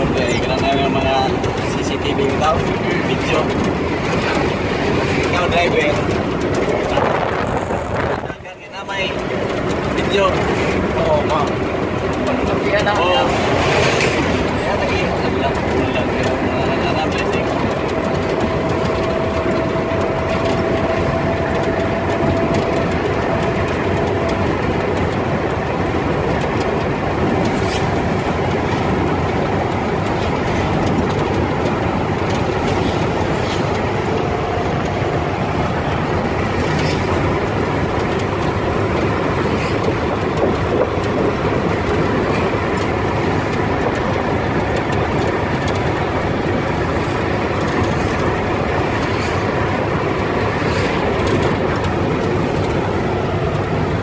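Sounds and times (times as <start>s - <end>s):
vehicle road and engine noise: 0.0s - 54.0s.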